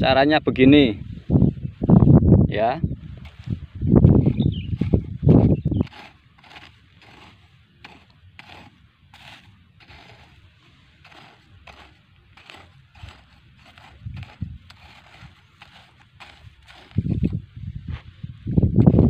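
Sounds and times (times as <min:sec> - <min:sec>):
hand hoe scraping dry soil: 0:03.0 - 0:19.0.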